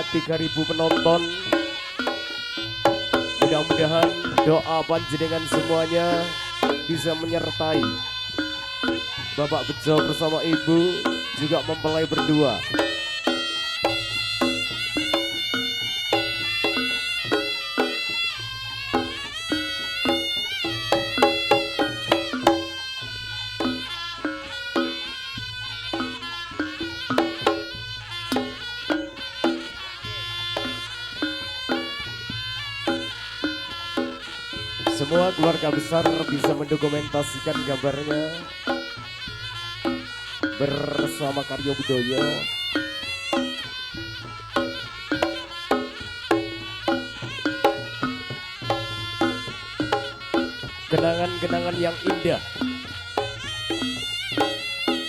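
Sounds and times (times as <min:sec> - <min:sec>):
pitched percussion strikes: 0:00.0 - 0:55.0
wavering held melody: 0:00.0 - 0:55.0.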